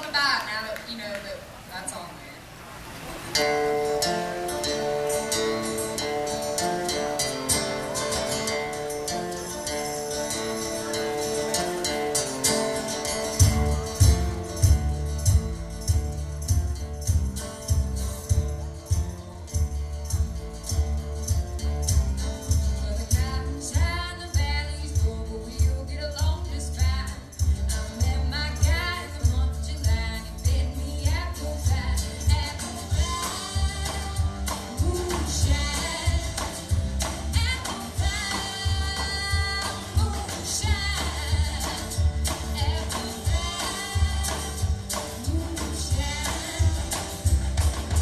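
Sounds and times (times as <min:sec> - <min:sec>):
folk-blues band playing: 0:02.4 - 0:48.0
jingling tambourine: 0:04.3 - 0:48.0.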